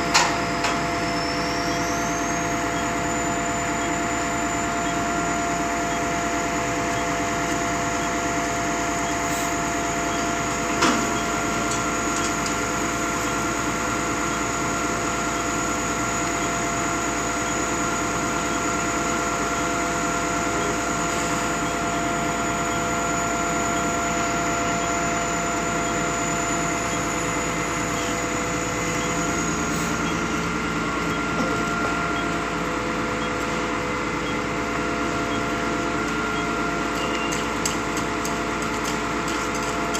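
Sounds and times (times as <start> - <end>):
pump machinery hum and whine: 0.0 - 39.9.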